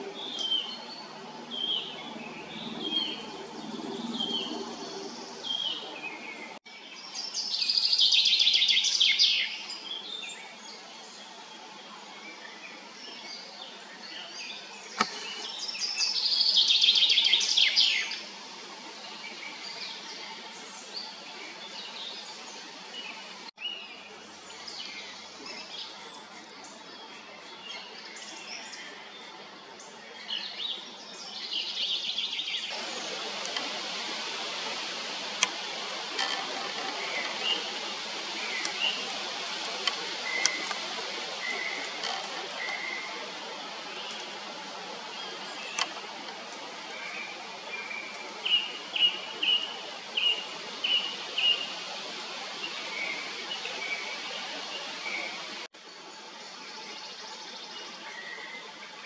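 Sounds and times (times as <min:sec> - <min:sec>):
songbirds singing and calling: 0:00.0 - 0:59.0
steady background hiss: 0:00.0 - 0:59.0.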